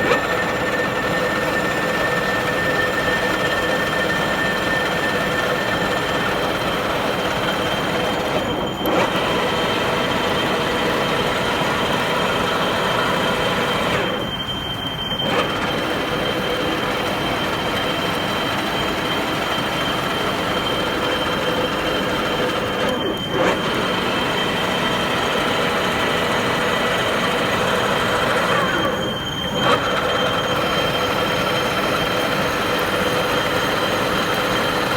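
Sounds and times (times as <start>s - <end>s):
lathe running with whining gears: 0.0s - 34.9s.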